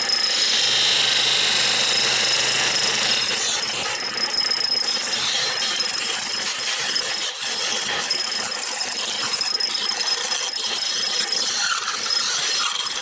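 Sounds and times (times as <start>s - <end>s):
tool scraping spinning wood: 0.0s - 13.0s
wood lathe humming: 0.0s - 13.0s.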